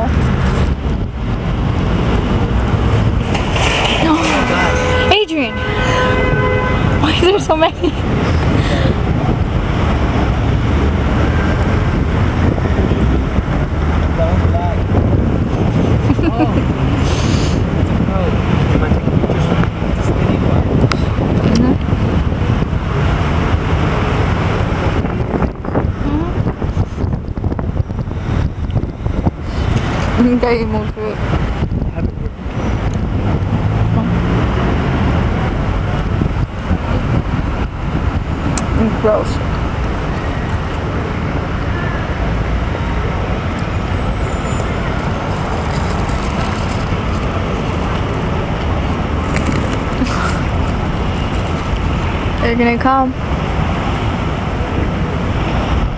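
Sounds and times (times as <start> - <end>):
city traffic rumble: 0.0 - 55.9
wind buffeting microphone: 0.0 - 55.9.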